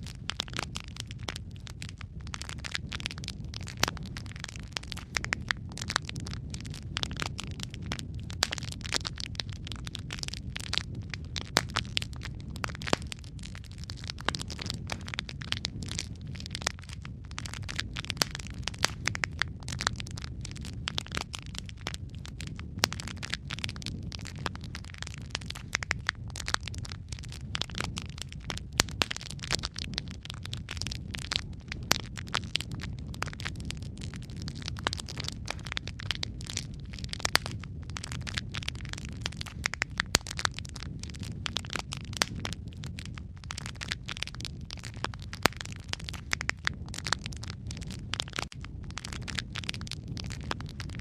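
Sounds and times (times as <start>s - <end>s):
low rumble of fire: 0.0s - 51.0s
wood fire crackling and popping: 0.0s - 51.0s.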